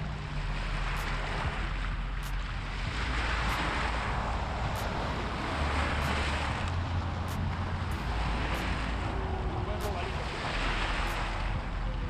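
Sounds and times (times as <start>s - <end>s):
waves washing against rocks: 0.0s - 12.0s
wind rumbling on microphone: 0.0s - 12.0s.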